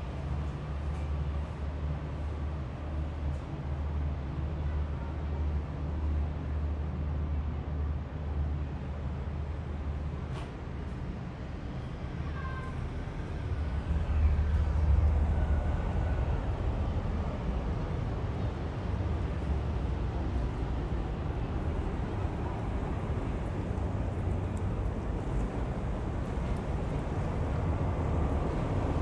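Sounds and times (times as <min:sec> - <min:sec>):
ferry engine rumble: 0:00.0 - 0:29.0.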